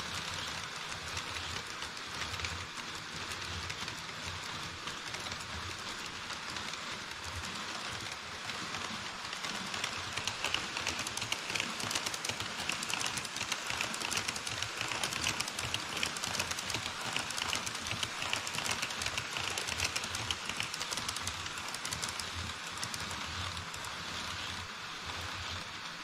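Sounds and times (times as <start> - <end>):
model train wheels clattering on rails: 0.0 - 26.0.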